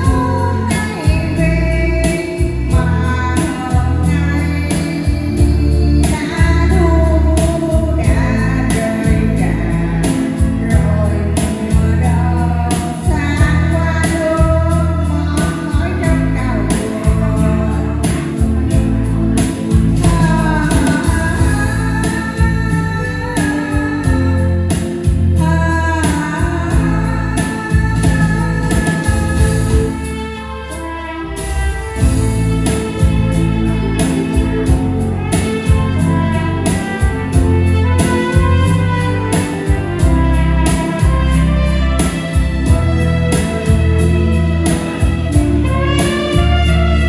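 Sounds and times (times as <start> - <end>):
backing music with pulsing bass: 0.0 - 47.0
woman singing: 0.0 - 47.0.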